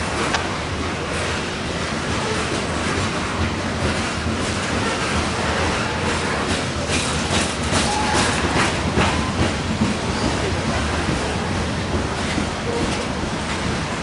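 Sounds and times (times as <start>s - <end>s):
freight train rumbling past: 0.0s - 14.0s
wheels clacking over rail joints: 0.0s - 14.0s.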